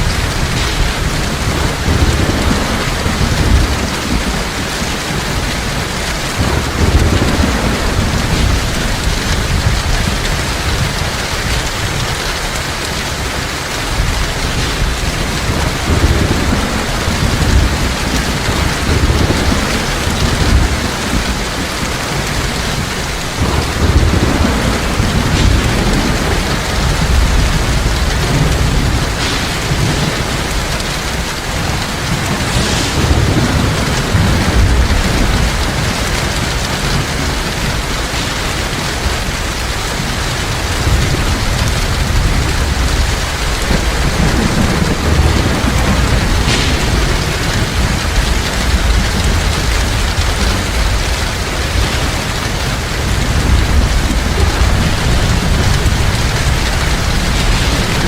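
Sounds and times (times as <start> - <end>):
heavy rain: 0.0 - 58.0
rolling thunder: 0.0 - 58.0.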